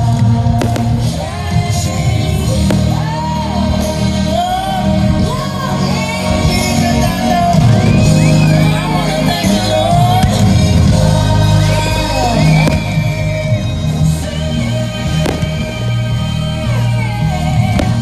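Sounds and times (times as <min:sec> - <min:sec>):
singing voice: 0:00.0 - 0:18.0
sustained bass: 0:00.0 - 0:18.0.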